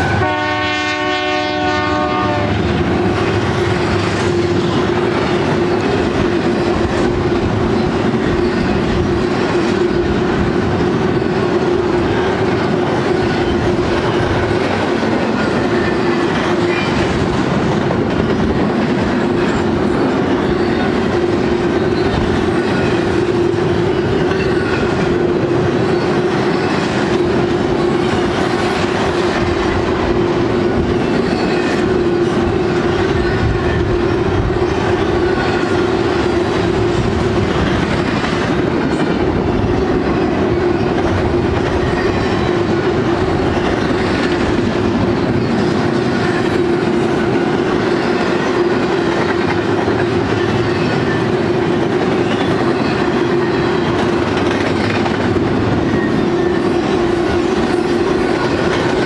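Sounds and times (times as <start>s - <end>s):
clacking train wheels: 0.0s - 59.0s
freight train wheels on rails: 0.0s - 59.0s
steady train drone: 0.0s - 59.0s.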